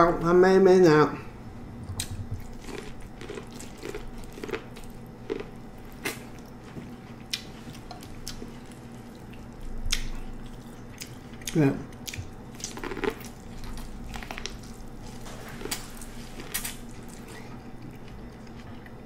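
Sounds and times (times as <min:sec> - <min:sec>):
faint steady hum: 0:00.0 - 0:19.0
person eating corn wet clicks: 0:01.9 - 0:06.6, 0:07.2 - 0:18.7.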